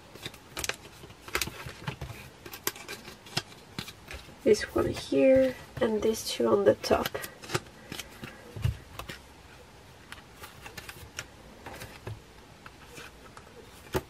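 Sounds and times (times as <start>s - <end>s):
card and plastic clicks and rustles: 0.1s - 5.8s, 6.8s - 9.3s, 10.0s - 14.0s.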